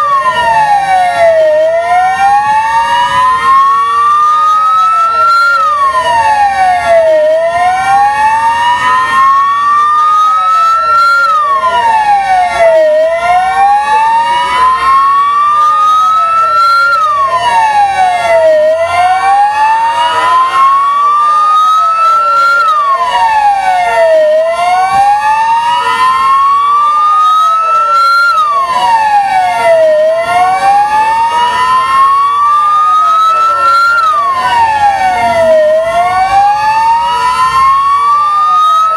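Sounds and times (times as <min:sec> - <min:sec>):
siren wailing: 0:00.0 - 0:38.9.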